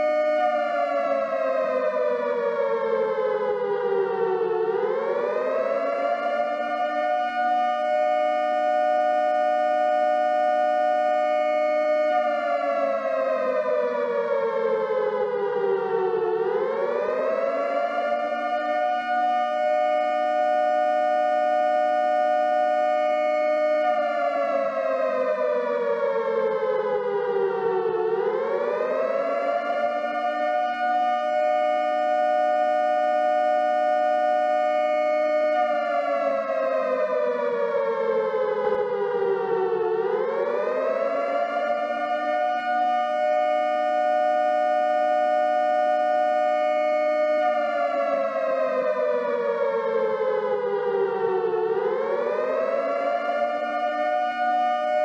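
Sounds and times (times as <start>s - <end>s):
two-tone warning siren: 0.0s - 55.0s.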